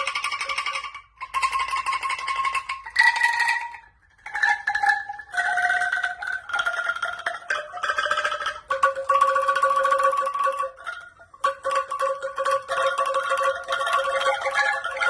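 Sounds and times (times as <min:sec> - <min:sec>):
bamboo angklung rattling notes: 0:00.0 - 0:15.0.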